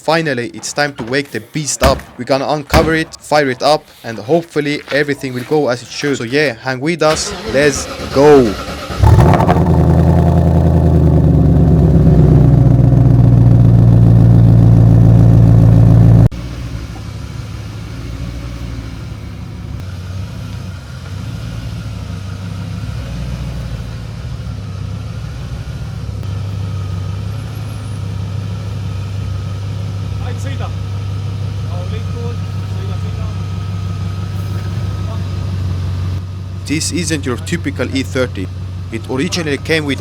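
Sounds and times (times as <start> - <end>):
car engine idling: 7.1 - 40.0.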